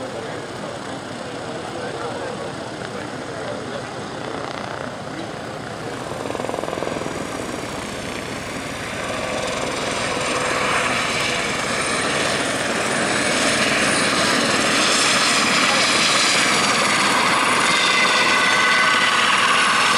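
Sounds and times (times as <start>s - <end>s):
helicopter flying low past: 0.0s - 19.9s.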